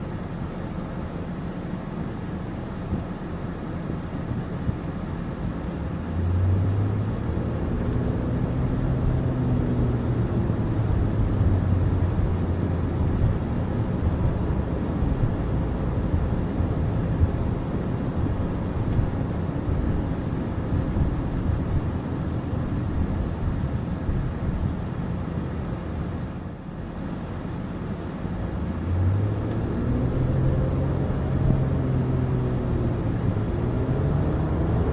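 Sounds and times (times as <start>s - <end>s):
car engine: 0.0s - 34.9s
road noise: 0.0s - 34.9s.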